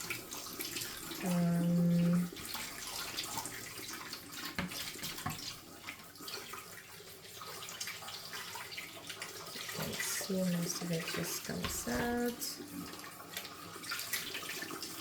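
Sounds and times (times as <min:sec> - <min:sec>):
tap water running over plastic: 0:00.0 - 0:15.0.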